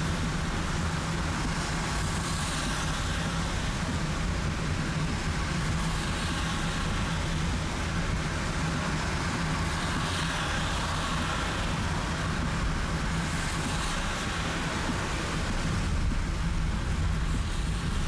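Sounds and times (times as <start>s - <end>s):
road and rain noise: 0.0s - 18.0s.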